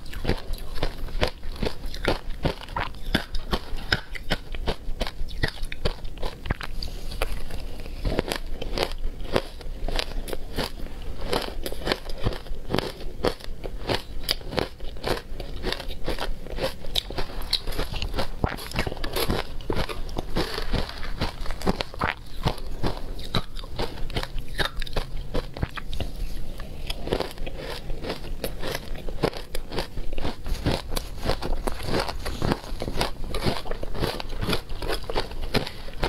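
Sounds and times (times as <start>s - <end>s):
chewing crunchy shaved ice: 0.0s - 36.0s.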